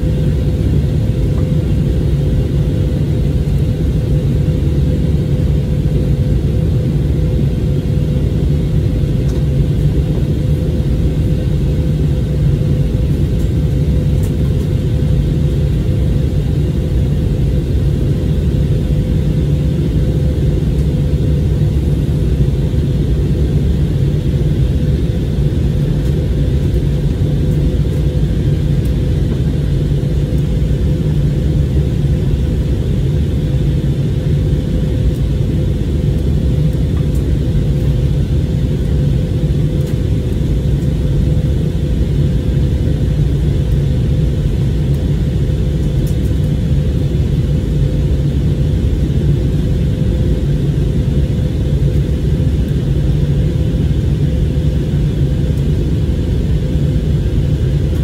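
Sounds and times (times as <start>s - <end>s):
airplane cabin engine rumble: 0.0s - 58.0s
steady cabin hum: 0.0s - 58.0s.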